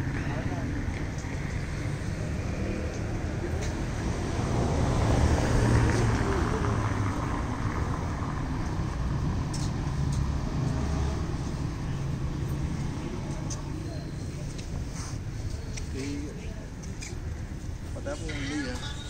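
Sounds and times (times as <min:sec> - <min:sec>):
outdoor noise: 0:00.0 - 0:19.0.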